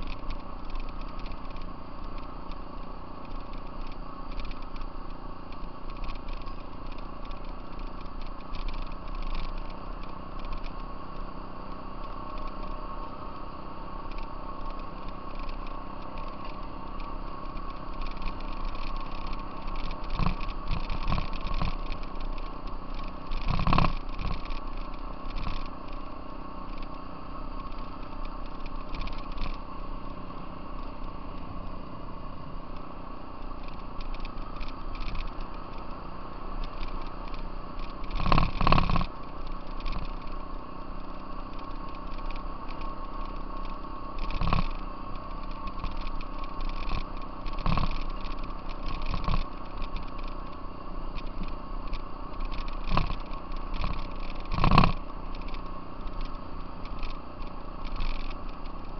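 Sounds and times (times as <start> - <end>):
rattles: 0.0 - 13.2, 14.0 - 58.9
off-road vehicle engine running: 0.0 - 58.9.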